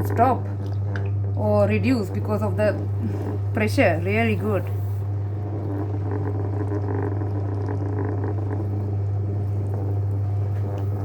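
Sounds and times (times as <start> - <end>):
pottery wheel motor humming: 0.0 - 11.0.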